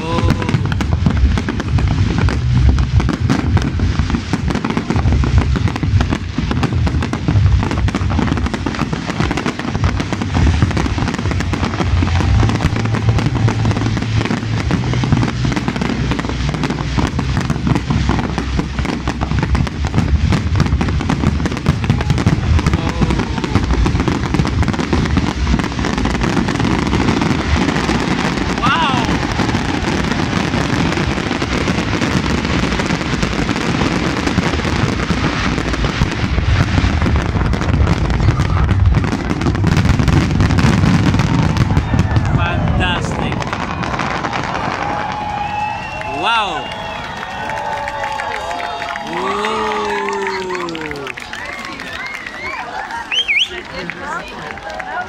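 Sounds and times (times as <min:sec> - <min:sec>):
deep fireworks booms: 0:00.0 - 0:51.4
fireworks bangs and crackling: 0:00.0 - 0:55.0.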